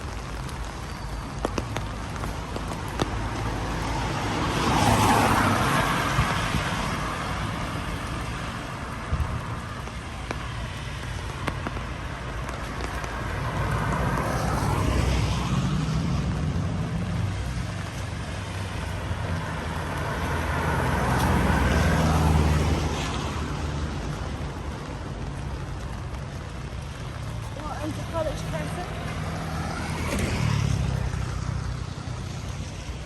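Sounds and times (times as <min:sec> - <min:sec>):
tyres hissing on wet road: 0:00.0 - 0:33.0.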